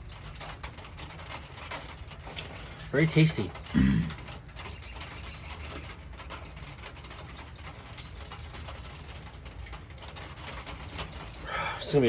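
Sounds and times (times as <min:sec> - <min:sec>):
raindrops pattering: 0:00.0 - 0:12.0.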